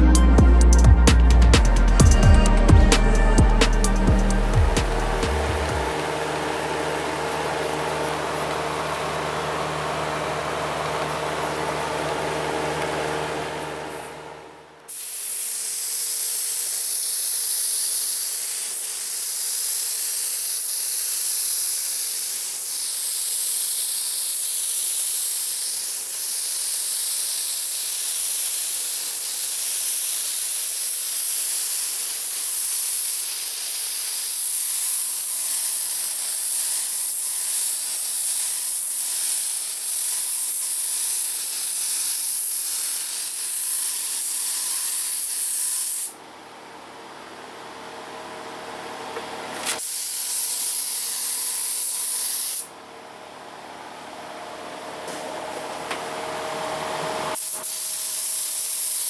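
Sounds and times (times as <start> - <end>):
spray gun hissing: 1.2 - 46.2, 49.6 - 52.7, 57.3 - 59.0.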